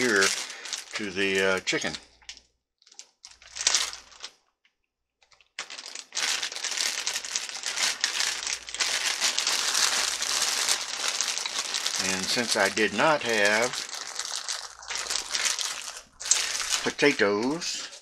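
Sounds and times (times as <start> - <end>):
crinkly rustling: 0.0 - 4.4, 5.2 - 18.0.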